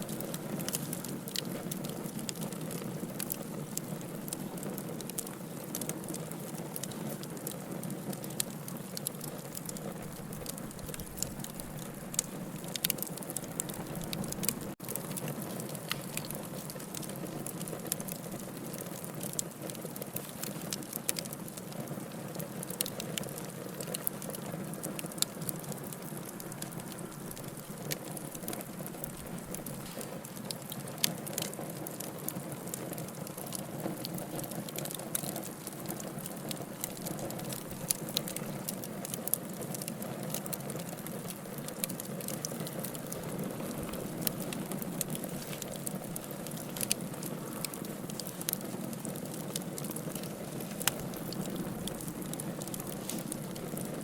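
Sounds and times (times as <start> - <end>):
fire hissing: 0.0 - 21.8, 22.4 - 32.3, 33.0 - 54.0
wood fire crackling and popping: 0.0 - 54.0.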